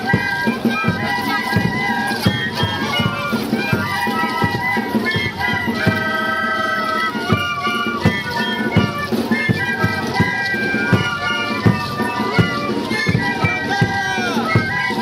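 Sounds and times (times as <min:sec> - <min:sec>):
panpipes ensemble playing: 0:00.0 - 0:15.0.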